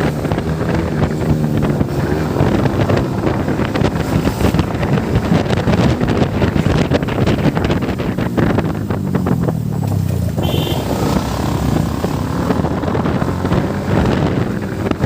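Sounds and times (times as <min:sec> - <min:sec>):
motorcycle engine: 0:00.0 - 0:15.0
wind buffeting microphone: 0:00.0 - 0:15.0.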